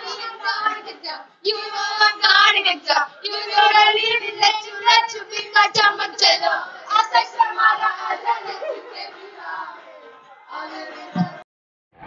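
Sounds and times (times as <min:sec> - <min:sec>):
girls singing together: 0:00.0 - 0:11.4.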